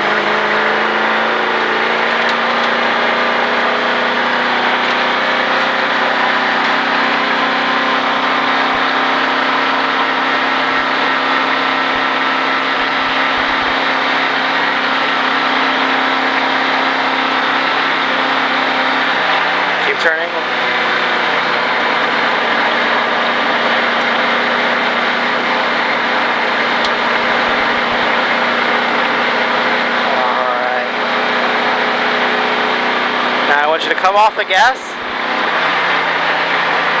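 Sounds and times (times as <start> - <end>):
race car engine drone: 0.0 - 37.0.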